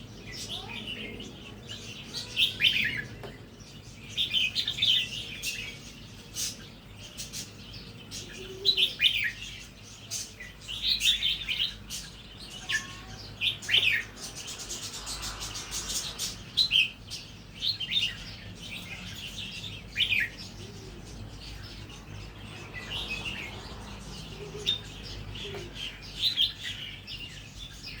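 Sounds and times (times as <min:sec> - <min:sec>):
bird singing warbled phrases: 0:00.0 - 0:28.0.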